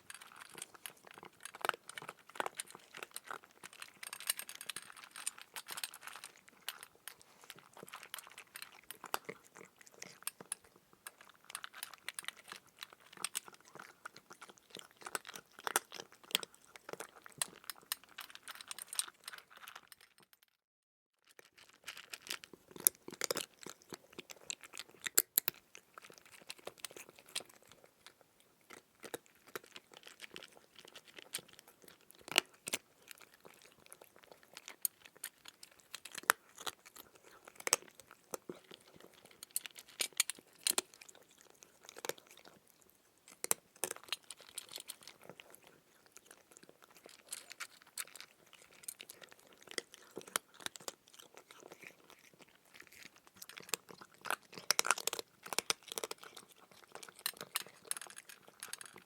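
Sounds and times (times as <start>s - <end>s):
cat chewing food: 0.0s - 20.3s, 21.3s - 59.0s.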